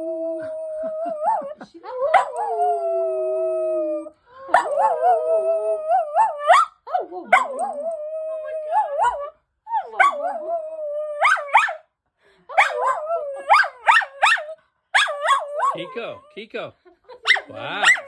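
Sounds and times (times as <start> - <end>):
dog howling: 0.0 - 6.7, 7.4 - 11.8, 12.6 - 16.3.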